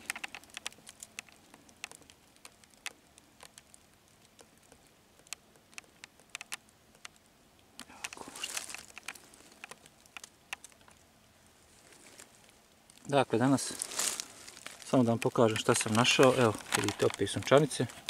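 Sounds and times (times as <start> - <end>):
clicks and crackles in leaf litter: 0.0 - 18.0
leaves rustling: 0.0 - 18.0.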